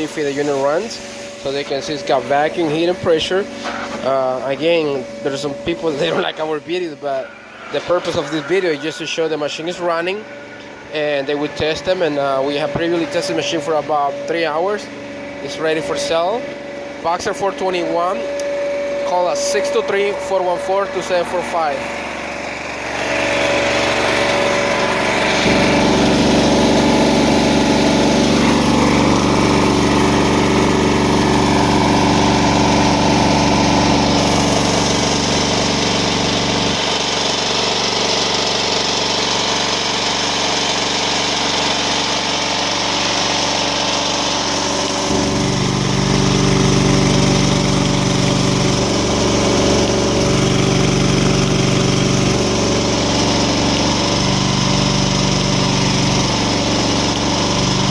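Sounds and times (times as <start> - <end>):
carpet cleaning machine droning: 0.0 - 57.9.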